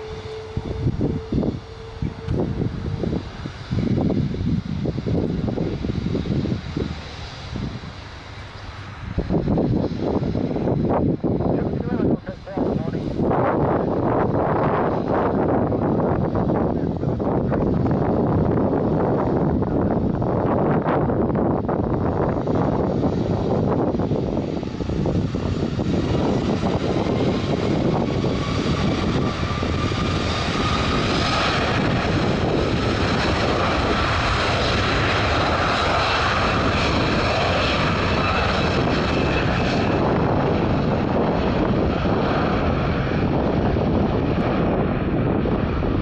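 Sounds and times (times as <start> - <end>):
jet engines roaring: 0.0 - 46.0
rising jet engine whine: 0.0 - 46.0.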